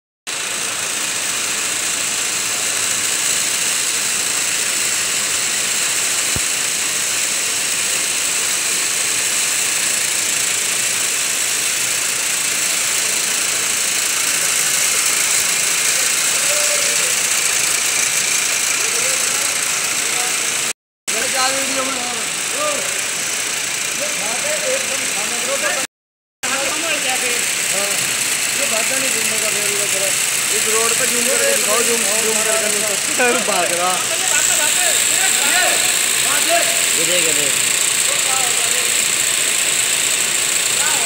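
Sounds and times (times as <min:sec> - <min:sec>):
spinning machine whirring hiss: 0:00.3 - 0:25.9, 0:26.5 - 0:41.0.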